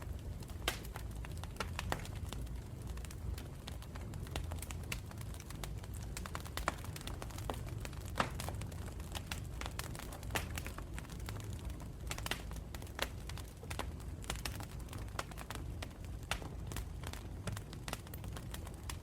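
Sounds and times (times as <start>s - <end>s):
campfire crackling and popping: 0.0s - 19.0s
low rumble of flames: 0.0s - 19.0s.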